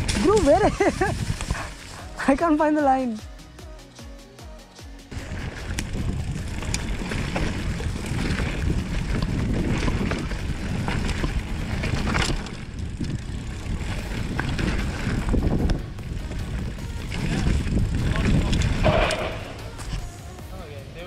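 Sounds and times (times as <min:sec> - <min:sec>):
wind on microphone: 0:00.0 - 0:02.2, 0:05.1 - 0:20.1
bike tyres on loose ground: 0:00.0 - 0:02.5, 0:05.1 - 0:20.1
bike rattling: 0:00.0 - 0:03.0, 0:05.1 - 0:20.3.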